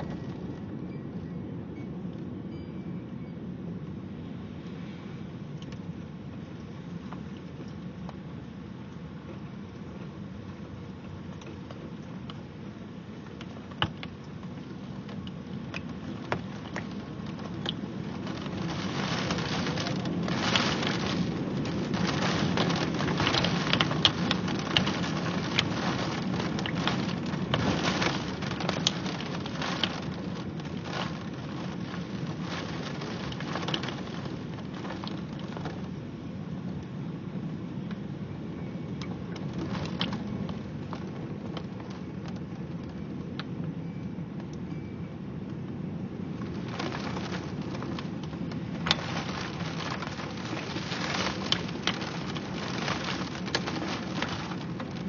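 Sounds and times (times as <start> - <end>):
heavy rain: 0.0 - 1.0, 4.1 - 43.4, 46.0 - 55.0.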